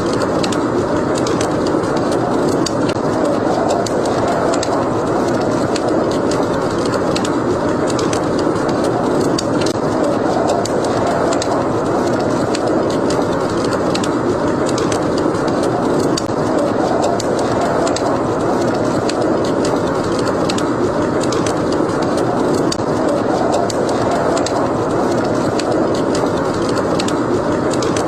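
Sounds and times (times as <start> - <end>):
rushing wind: 0.0 - 28.0
wood fire crackling: 0.0 - 28.0.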